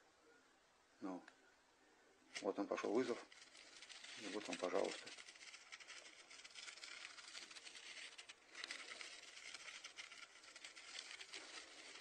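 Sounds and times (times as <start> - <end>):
faint crackling hiss: 0.0 - 12.0.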